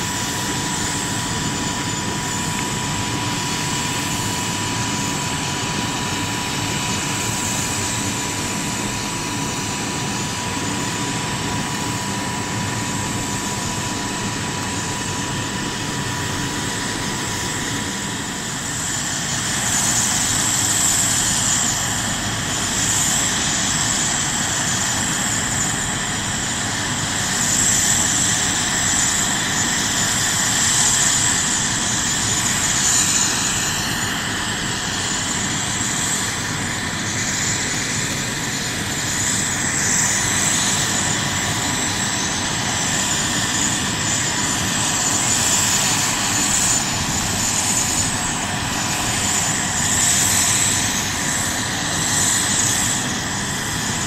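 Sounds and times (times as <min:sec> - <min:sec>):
helicopter engines whining: 0:00.0 - 0:54.0.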